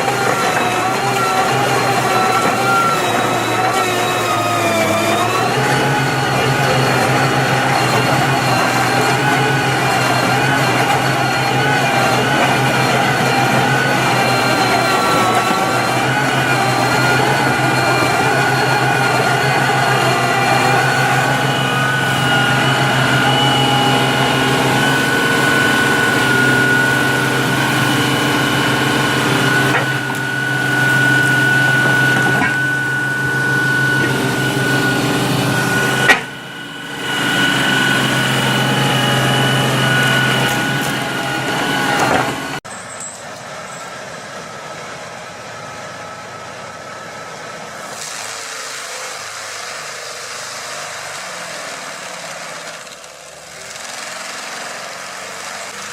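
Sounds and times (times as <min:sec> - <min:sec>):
heavy machinery engines whining: 0:00.0 - 0:55.9.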